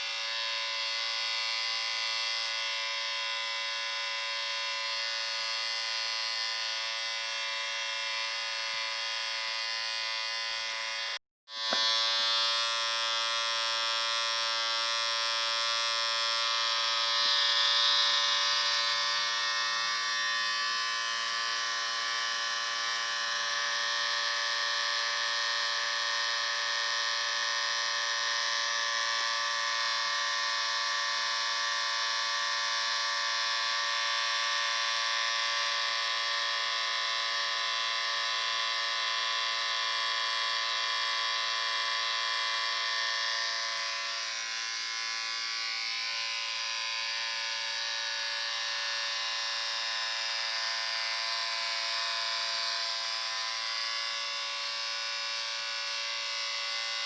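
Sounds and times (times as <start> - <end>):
electric shaver buzzing: 0.0 - 57.0.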